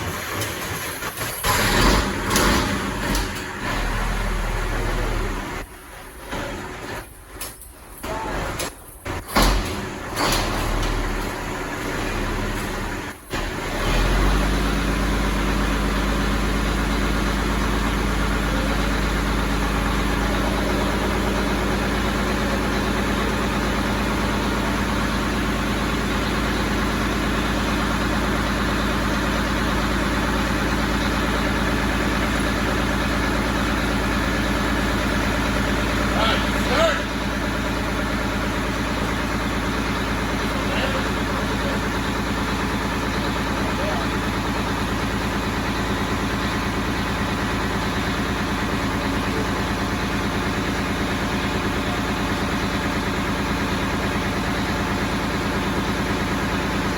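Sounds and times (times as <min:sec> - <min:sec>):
diesel engine cranking: 0:00.0 - 0:56.9
diesel engine idling: 0:00.0 - 0:56.9.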